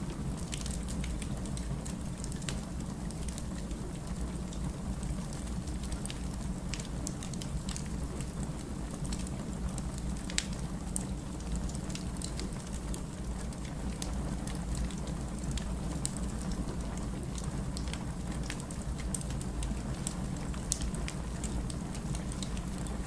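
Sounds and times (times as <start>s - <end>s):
burning logs crackling and popping: 0.0s - 23.0s
low rumble of flame: 0.0s - 23.0s.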